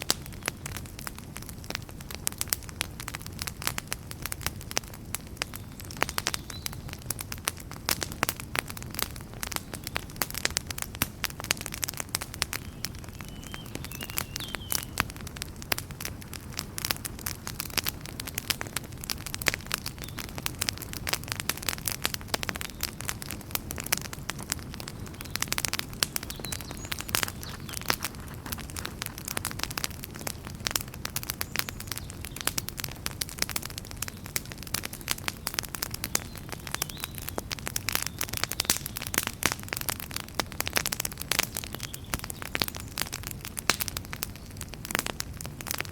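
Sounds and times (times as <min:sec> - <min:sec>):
campfire crackling: 0:00.0 - 0:45.9
low rumble of burning: 0:00.0 - 0:45.9.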